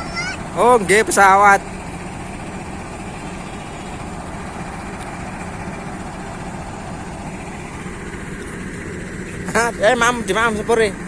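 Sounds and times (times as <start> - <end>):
diesel locomotive idling: 0.0 - 11.0.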